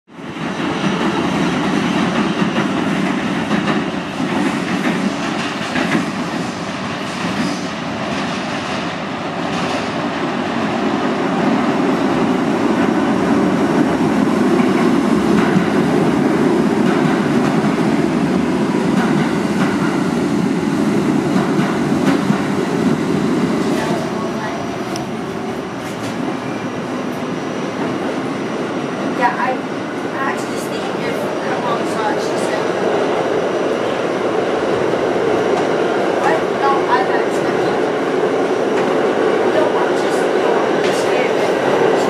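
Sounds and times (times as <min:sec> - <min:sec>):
subway train pulling into station: 0:00.1 - 0:42.0.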